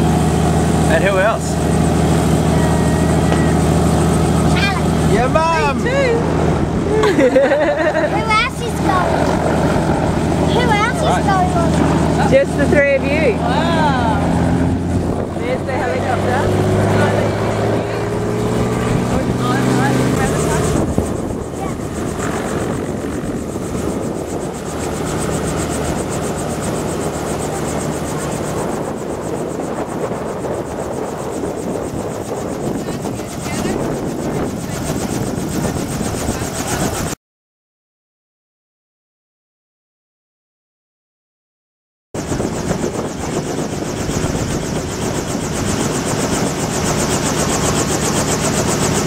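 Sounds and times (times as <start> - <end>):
helicopter engine and rotor idling: 0.0 - 37.2, 42.2 - 49.0.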